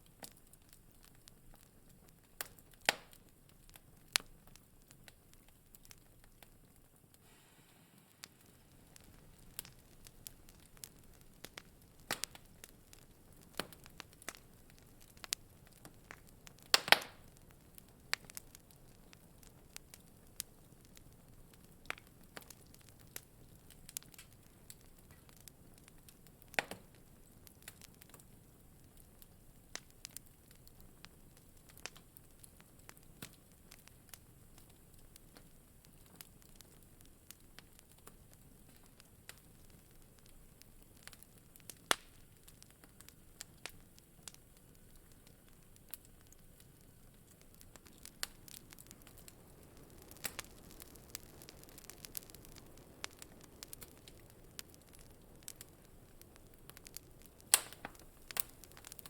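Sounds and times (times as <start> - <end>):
faint steady hiss: 0.0 - 59.0
wood fire crackling: 0.0 - 59.0.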